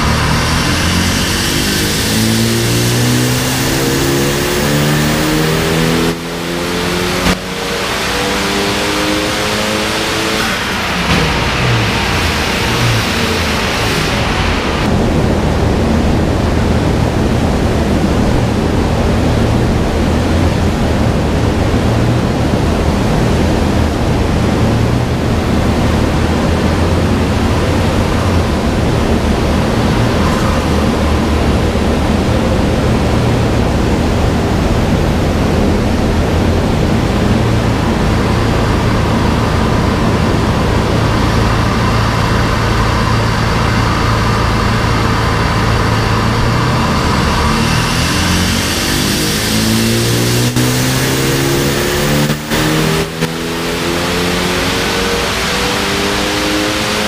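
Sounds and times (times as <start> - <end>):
car engine humming: 0.0 - 57.0
cooling fan rushing: 0.0 - 57.0.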